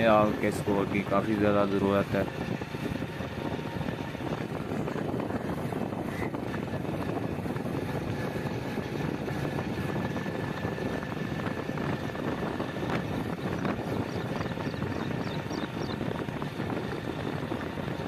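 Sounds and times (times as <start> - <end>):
motorcycle engine running: 0.0 - 18.0
wind noise on microphone: 0.0 - 18.0.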